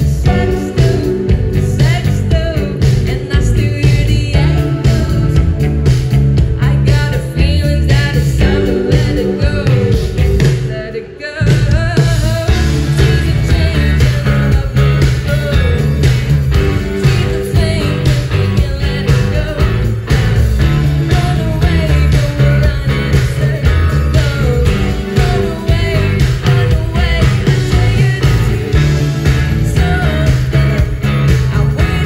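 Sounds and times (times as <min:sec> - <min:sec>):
live rock band playing: 0:00.0 - 0:32.0
woman singing: 0:00.0 - 0:32.0.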